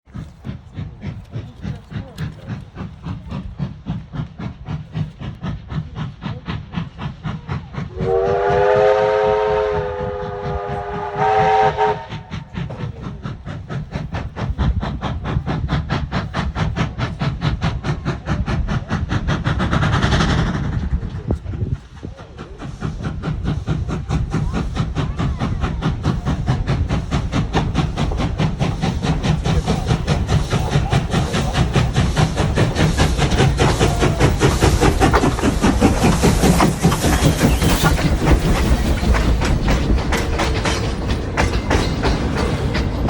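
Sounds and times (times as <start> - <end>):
steam locomotive exhaust chuffing: 0.0 - 43.0
steam hiss: 0.2 - 43.0.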